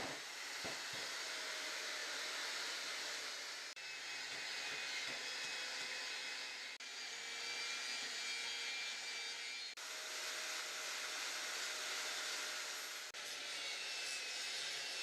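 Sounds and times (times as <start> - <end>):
steady workshop hissing: 0.0 - 15.0.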